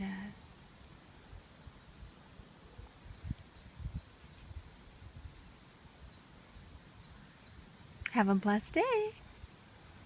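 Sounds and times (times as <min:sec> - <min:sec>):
insect chirping: 0:00.5 - 0:08.0, 0:09.2 - 0:09.9.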